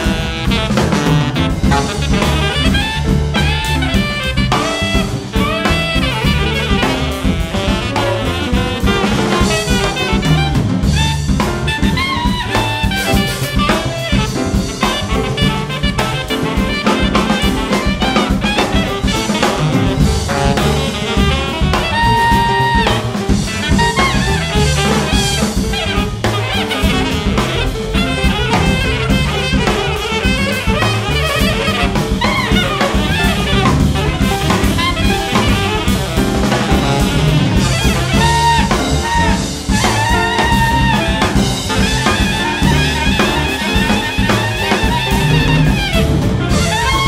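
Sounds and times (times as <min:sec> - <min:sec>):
alto saxophone: 0:00.0 - 0:47.0
bass: 0:00.0 - 0:47.0
drum kit: 0:00.0 - 0:47.0
piano: 0:00.0 - 0:47.0.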